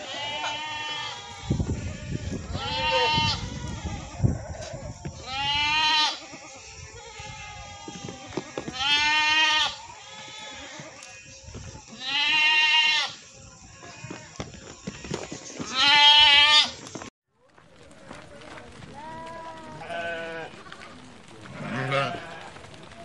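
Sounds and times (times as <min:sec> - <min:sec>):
goats bleating: 0:00.0 - 0:16.9, 0:18.9 - 0:20.8, 0:21.4 - 0:22.7.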